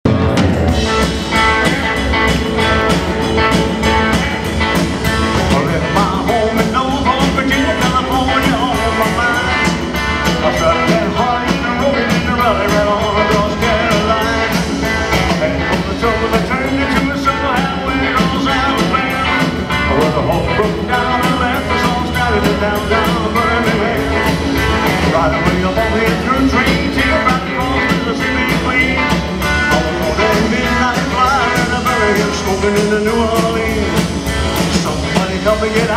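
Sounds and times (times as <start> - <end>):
electric guitar: 0.0 - 35.9
live rock band: 0.0 - 35.9
person singing: 0.1 - 35.9.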